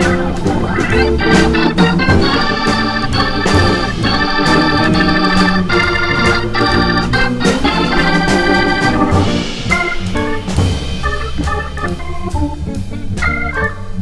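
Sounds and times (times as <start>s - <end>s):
drum kit keeping time: 0.0s - 14.0s
organ playing jazz: 0.0s - 14.0s.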